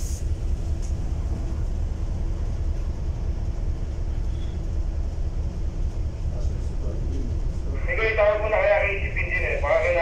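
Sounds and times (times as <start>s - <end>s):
dredger low rumble: 0.0s - 10.0s.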